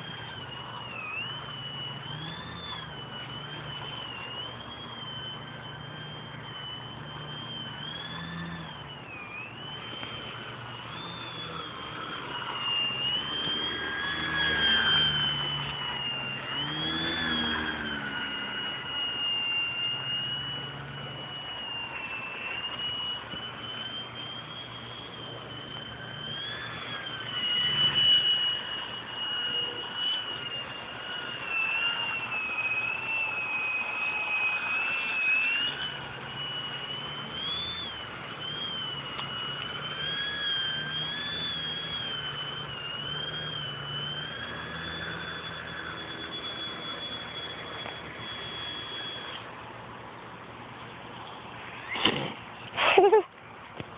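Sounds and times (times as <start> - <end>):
rc plane motor whining: 0.0 - 53.9.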